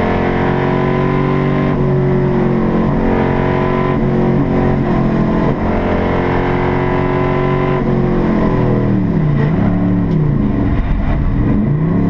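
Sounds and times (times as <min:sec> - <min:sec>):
race car engine under load: 0:00.0 - 0:12.0.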